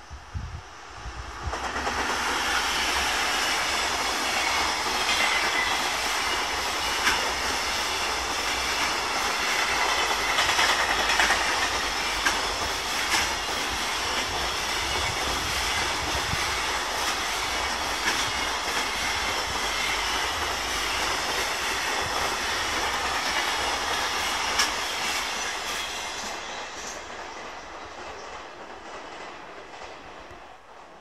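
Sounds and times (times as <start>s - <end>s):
freight train rumbling past: 0.0s - 31.0s
wheels clacking over rail joints: 3.8s - 31.0s.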